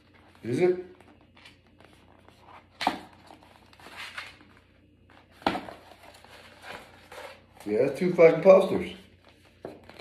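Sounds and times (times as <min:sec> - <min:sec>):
paper rustling and crinkling: 0:00.0 - 0:08.1, 0:08.7 - 0:10.0.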